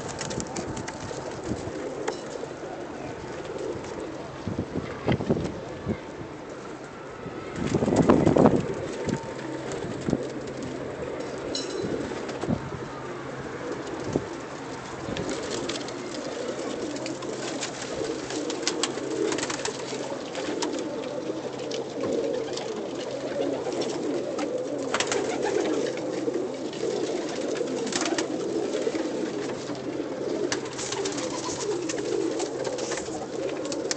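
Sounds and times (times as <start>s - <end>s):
pigeons cooing: 0.0s - 33.9s.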